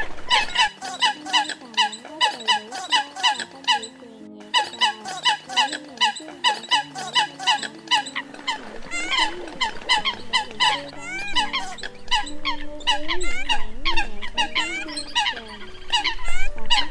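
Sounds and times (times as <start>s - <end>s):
coots calling: 0.3s - 16.9s.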